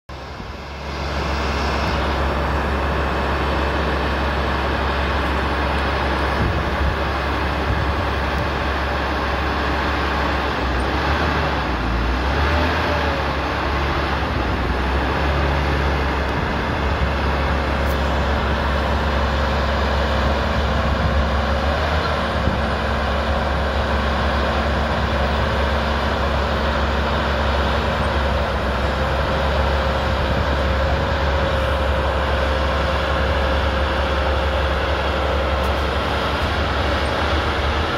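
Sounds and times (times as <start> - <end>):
diesel engine droning: 0.1 - 37.9
hydraulic whine: 0.1 - 37.9.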